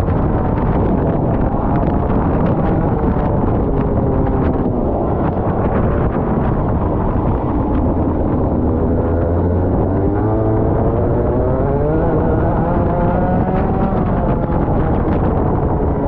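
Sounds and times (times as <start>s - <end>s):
kart engine revving: 0.1s - 16.0s.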